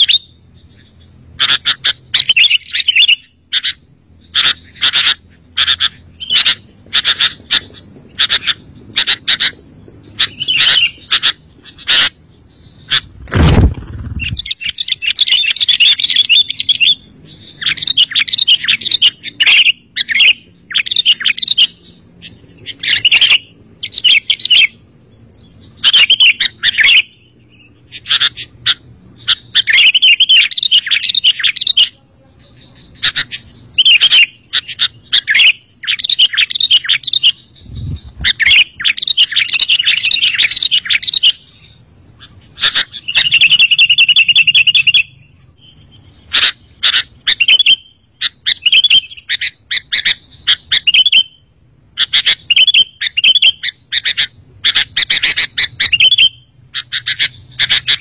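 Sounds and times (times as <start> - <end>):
bird chirping: 0.0 - 58.0
bird trill: 0.0 - 58.0.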